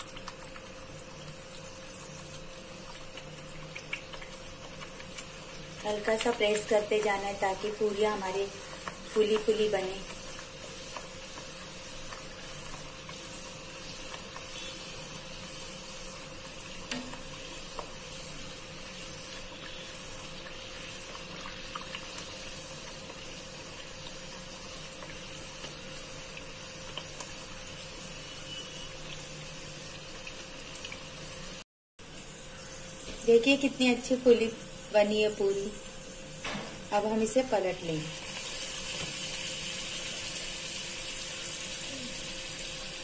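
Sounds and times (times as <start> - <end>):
hot oil sizzling: 0.0 - 43.0.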